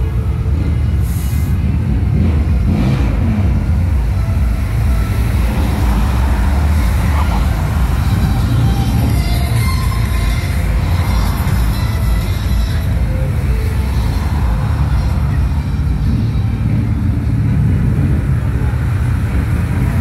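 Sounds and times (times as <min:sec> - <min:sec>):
cars and trucks driving past: 0:00.0 - 0:20.0.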